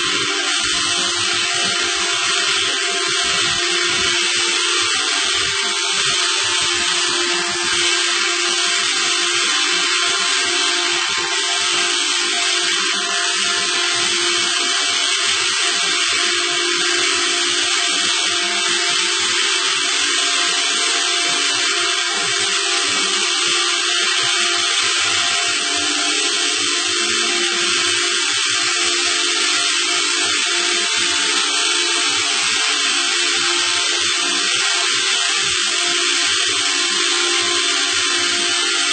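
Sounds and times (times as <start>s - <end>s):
steady mechanical whir: 0.0s - 38.9s.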